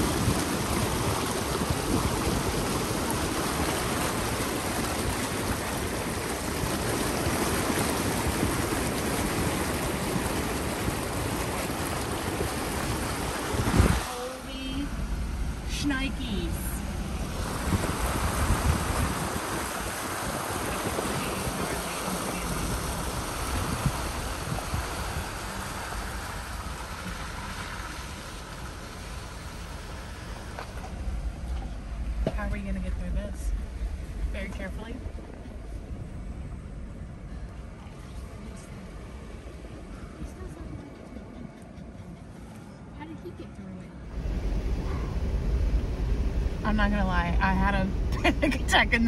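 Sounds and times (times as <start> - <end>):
floodwater rushing and sloshing: 0.0 - 43.4, 44.0 - 49.0
low engine rumble: 0.0 - 49.0.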